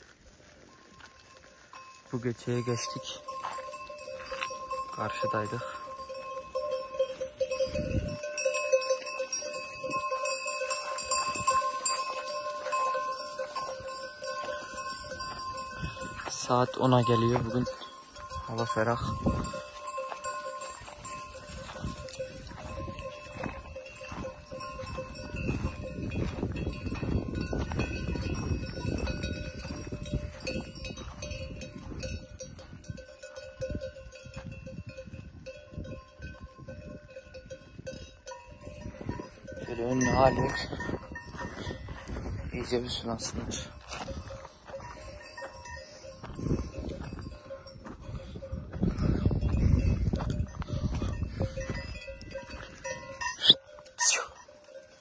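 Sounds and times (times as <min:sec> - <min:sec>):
neck bells ringing: 0:00.8 - 0:55.0.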